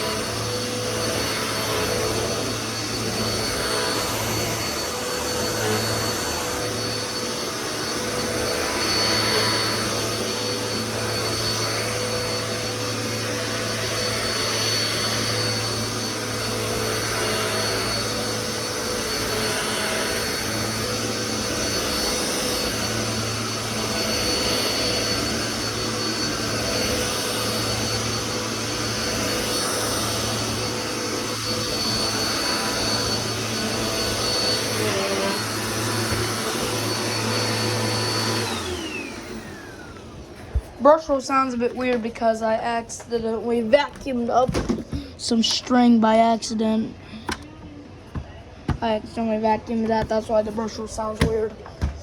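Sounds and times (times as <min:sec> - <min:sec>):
vacuum cleaner whining motor: 0:00.0 - 0:52.0.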